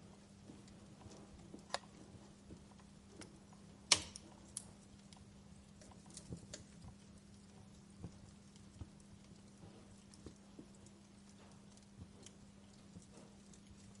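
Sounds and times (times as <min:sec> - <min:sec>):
faint low hum: 0:00.0 - 0:14.0
wood fire crackling and popping: 0:00.0 - 0:14.0.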